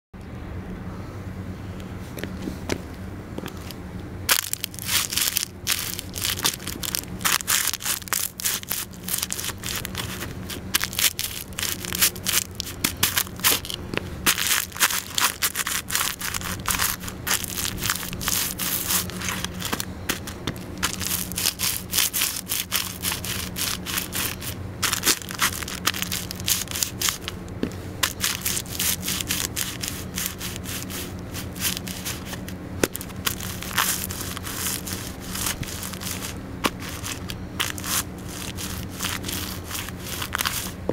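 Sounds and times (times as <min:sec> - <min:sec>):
shoes crushing paper packets: 0:03.4 - 0:40.9.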